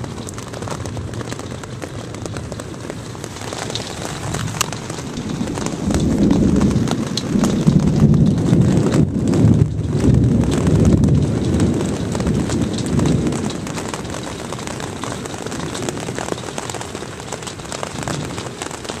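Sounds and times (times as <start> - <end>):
low rumble: 0.0 - 16.2
hail pelting a roof: 0.0 - 19.0.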